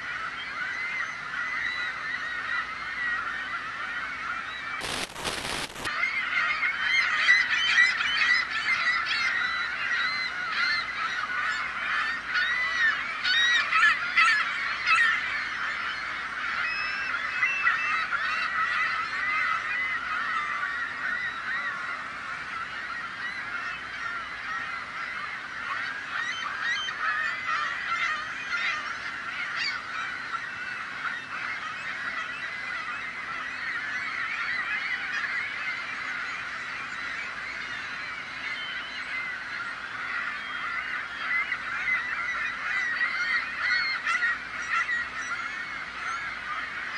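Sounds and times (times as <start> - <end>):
seagulls calling: 0.0 - 46.9.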